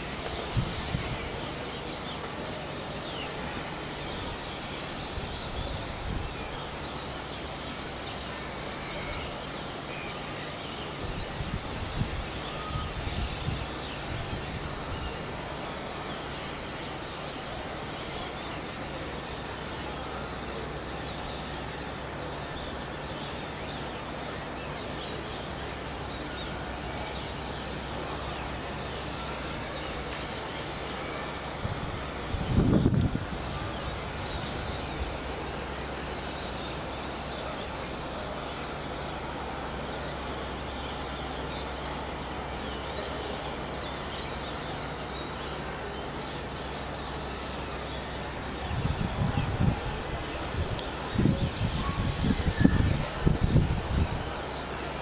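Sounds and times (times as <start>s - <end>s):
city traffic hum: 0.0s - 55.0s.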